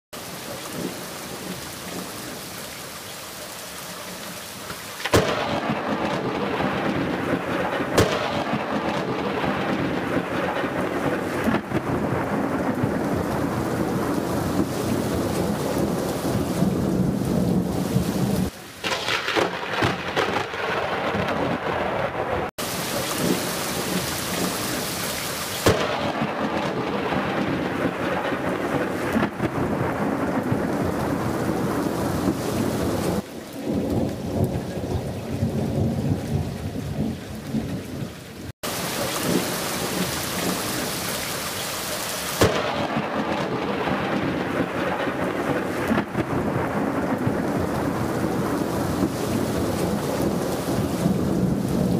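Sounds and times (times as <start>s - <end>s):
steady rain: 0.2s - 51.9s
thunder rumbles and cracks: 5.0s - 24.8s, 25.6s - 40.9s, 42.4s - 51.9s.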